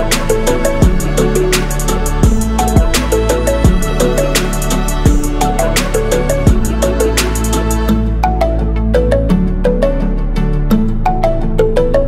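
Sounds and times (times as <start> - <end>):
light instrumental tune: 0.0 - 12.0.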